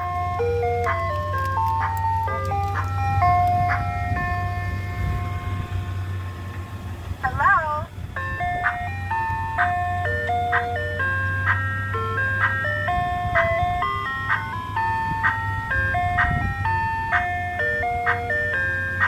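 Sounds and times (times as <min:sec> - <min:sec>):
ice cream truck jingle: 0:00.0 - 0:19.0.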